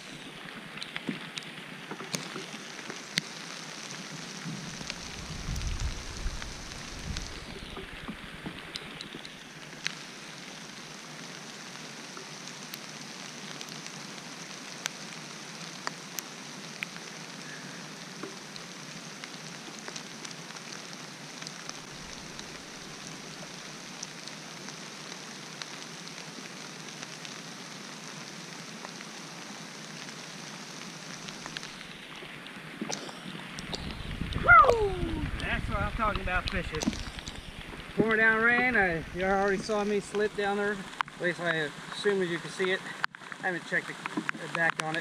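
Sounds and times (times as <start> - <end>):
heavy rain falling: 0.0 - 45.0
sharp ticks of raindrops: 0.0 - 45.0.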